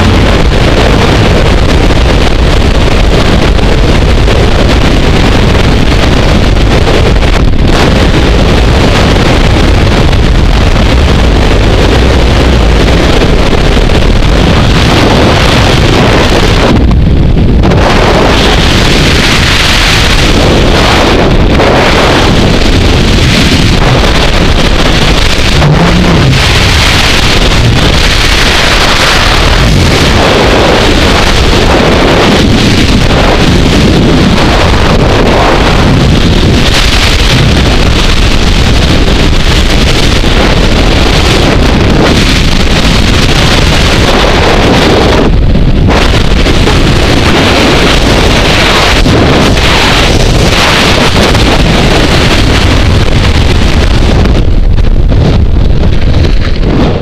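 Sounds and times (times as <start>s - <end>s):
wind roaring over microphone: 0.0s - 57.0s.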